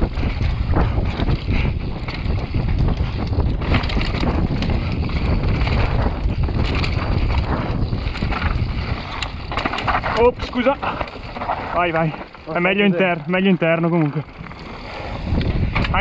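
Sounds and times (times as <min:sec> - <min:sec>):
bike clicks and knocks: 0:00.0 - 0:16.0
wind rushing over microphone: 0:00.0 - 0:16.0.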